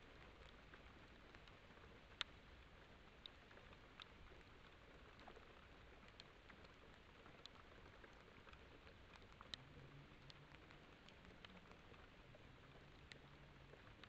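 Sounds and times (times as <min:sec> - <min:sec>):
faint microphone hiss: 0:00.0 - 0:14.0
faint ticks: 0:00.0 - 0:14.0.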